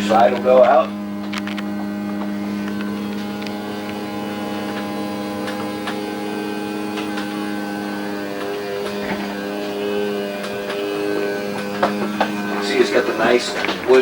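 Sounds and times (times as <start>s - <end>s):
faint clicks and ticks: 0.0s - 14.0s
slide-out motor hum: 0.0s - 14.0s.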